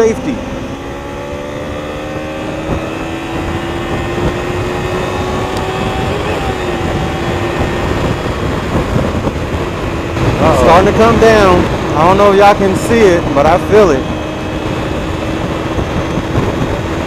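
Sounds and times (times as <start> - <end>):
wind rush on microphone: 0.0 - 17.0.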